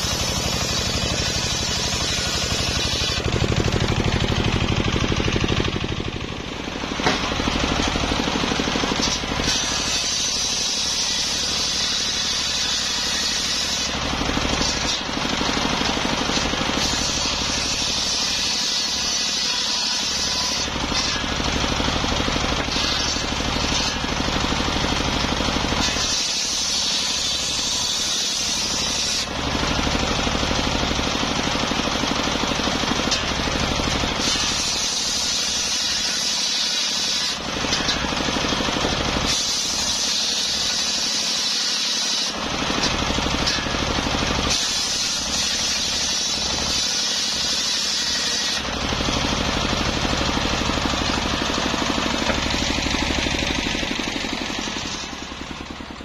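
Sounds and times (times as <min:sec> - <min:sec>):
saw blade whining through wood: 0:00.0 - 0:56.0
stationary engine running: 0:00.0 - 0:56.0.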